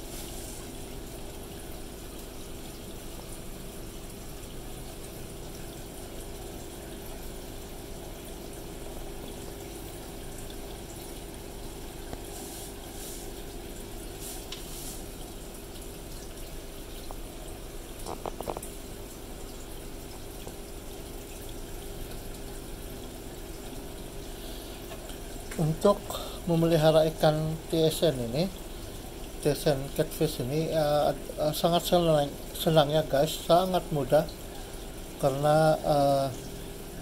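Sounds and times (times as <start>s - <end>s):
bubbling and trickling water: 0.0s - 37.0s
low pump hum: 0.0s - 37.0s.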